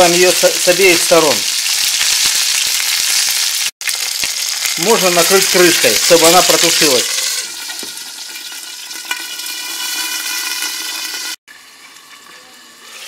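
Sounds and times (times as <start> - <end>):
sausage sizzling in oil: 0.0 - 13.0.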